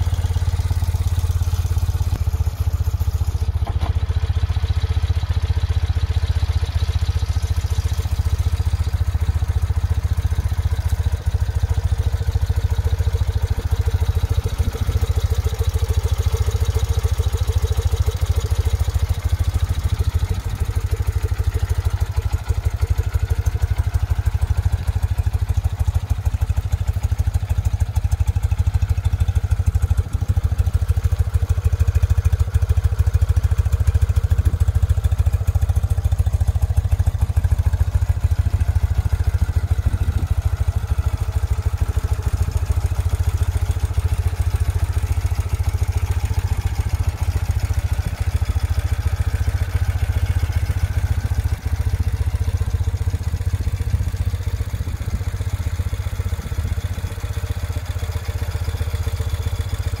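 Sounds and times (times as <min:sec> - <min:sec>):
motorcycle engine idling: 0:00.0 - 1:00.0.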